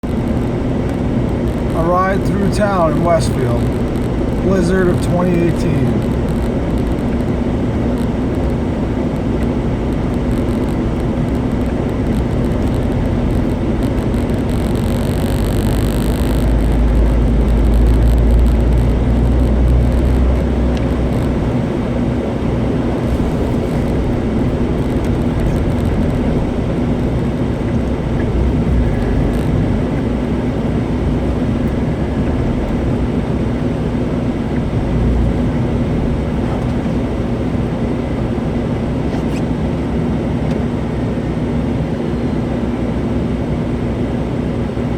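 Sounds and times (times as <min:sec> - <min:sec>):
car engine and tyre drone: 0:00.0 - 0:44.9.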